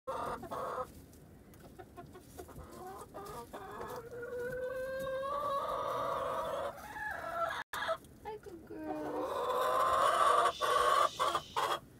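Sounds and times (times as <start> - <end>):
hens clucking: 0.1 - 11.9.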